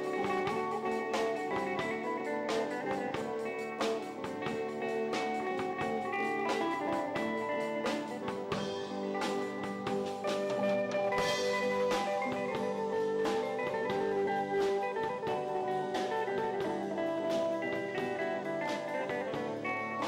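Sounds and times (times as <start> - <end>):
drum kit beat: 0.0 - 20.0
electric guitars playing melody: 0.0 - 20.0.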